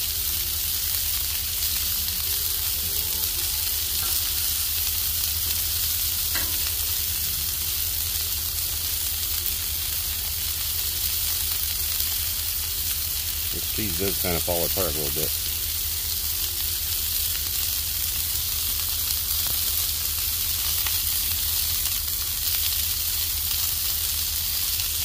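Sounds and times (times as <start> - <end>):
burgers sizzling on a griddle: 0.0 - 25.0.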